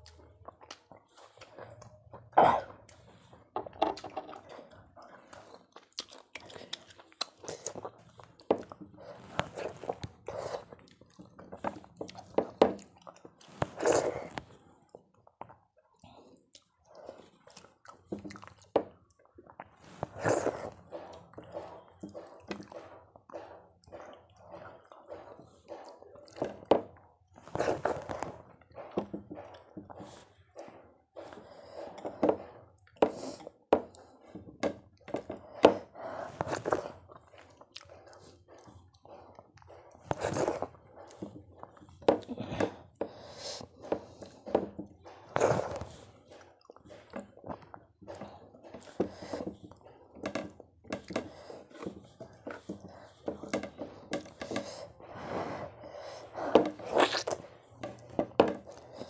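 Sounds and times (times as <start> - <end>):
chewing and mouth sounds: 0.0 - 59.0.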